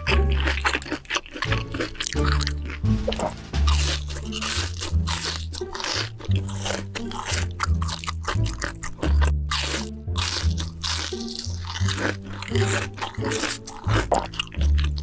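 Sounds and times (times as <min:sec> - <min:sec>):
background music with bass: 0:00.0 - 0:15.0
crunching fried food: 0:00.0 - 0:15.0.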